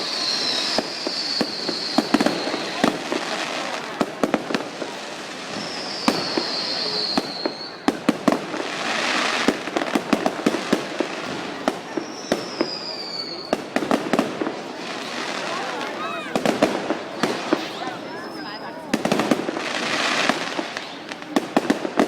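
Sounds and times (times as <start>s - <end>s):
fireworks bangs and crackles: 0.0s - 22.0s
whistling fireworks: 0.0s - 22.0s.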